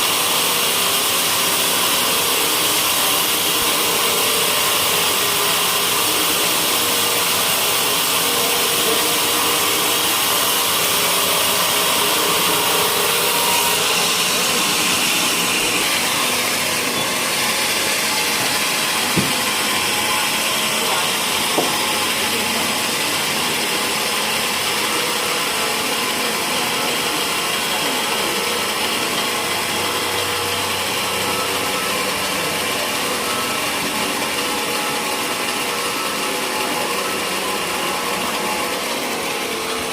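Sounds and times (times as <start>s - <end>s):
saw blade cutting wood: 0.0s - 39.9s.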